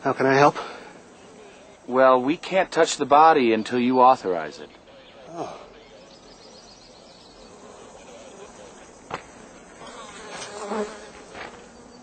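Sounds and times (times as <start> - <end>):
flies buzzing: 0.0 - 12.0.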